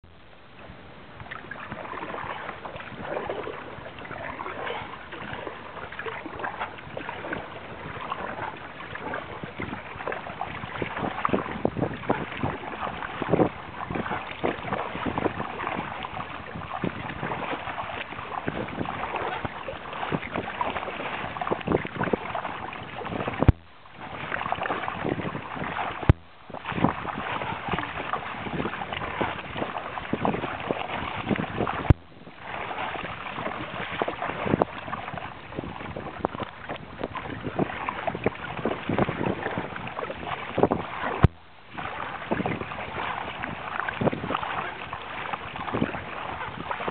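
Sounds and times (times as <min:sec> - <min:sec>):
water splashing against kayak hull: 0:00.1 - 0:46.9
wind buffeting microphone: 0:00.6 - 0:46.9.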